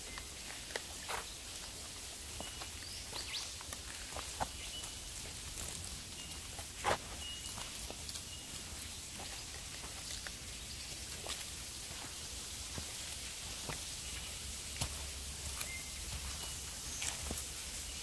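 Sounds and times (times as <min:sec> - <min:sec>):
footsteps on track: 0:00.0 - 0:18.0
steady high hiss: 0:00.0 - 0:18.0.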